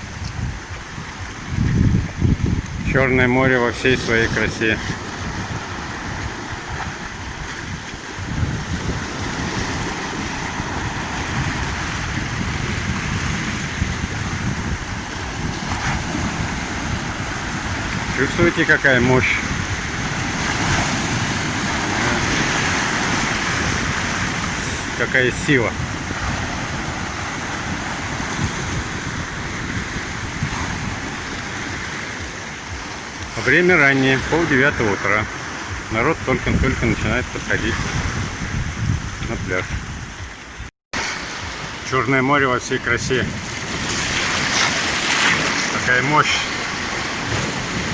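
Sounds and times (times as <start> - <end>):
wind on microphone: 0.0 - 33.4, 34.2 - 41.8, 43.0 - 47.9
waves breaking: 0.0 - 47.9.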